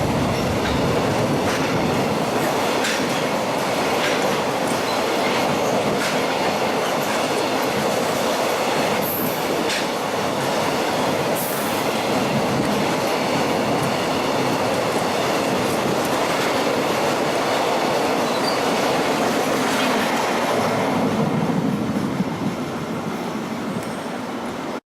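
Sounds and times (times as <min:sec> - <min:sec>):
train wheels on rails: 0:00.0 - 0:24.8.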